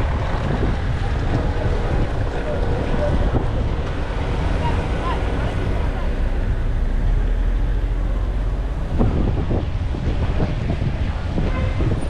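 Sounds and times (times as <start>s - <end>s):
low rumble: 0.0s - 11.2s
wind buffeting microphone: 0.0s - 12.0s.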